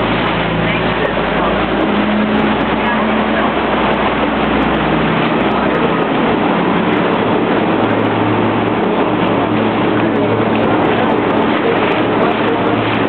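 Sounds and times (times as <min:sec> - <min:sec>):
motorboat engine hum: 0:00.0 - 0:13.0
rush of water and wind: 0:00.0 - 0:13.0.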